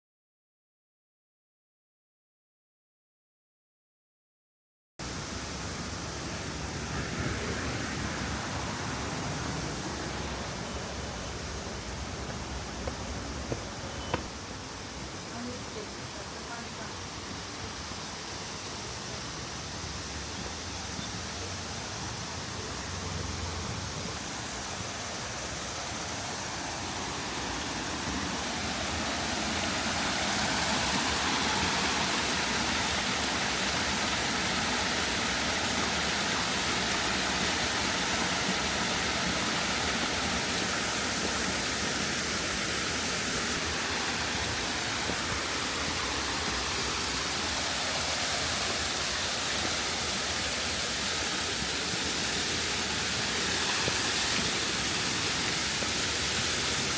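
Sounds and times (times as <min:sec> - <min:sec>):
waterfall roaring: 0:05.0 - 0:56.9.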